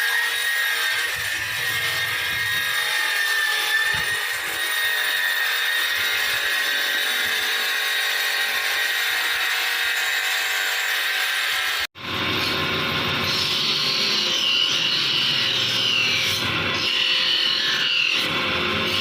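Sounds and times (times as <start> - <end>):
power tool whining: 0.0 - 19.0.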